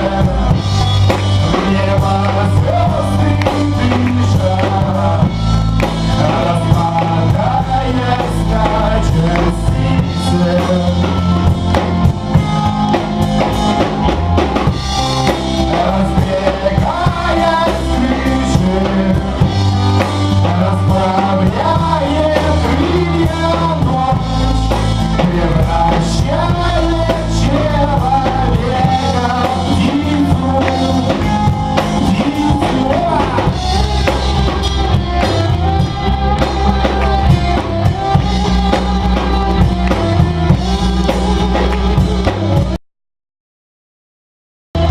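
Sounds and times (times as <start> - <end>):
drum kit: 0.0 - 42.8
steady bass line: 0.0 - 42.8.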